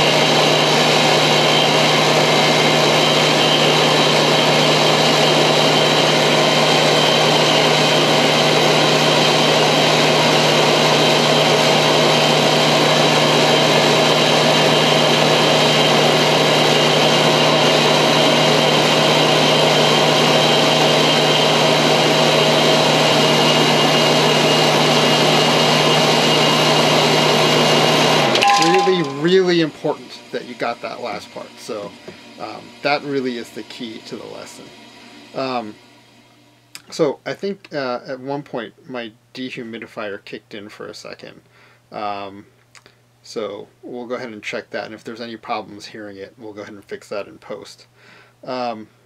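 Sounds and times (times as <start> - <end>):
dehumidifier fan and compressor: 4.8 - 49.0.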